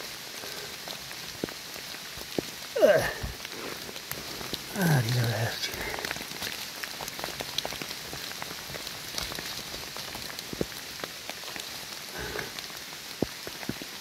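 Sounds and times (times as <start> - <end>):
rain pattering on wet leaves: 0.0 - 14.0.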